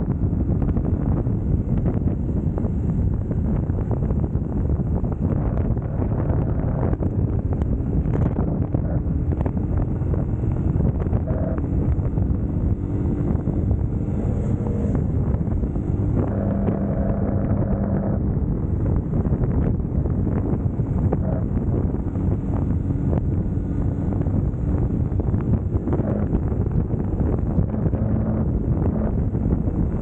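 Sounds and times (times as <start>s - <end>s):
motorcycle engine running: 0.0s - 30.0s
road noise: 0.0s - 30.0s
wind rushing on microphone: 0.0s - 30.0s.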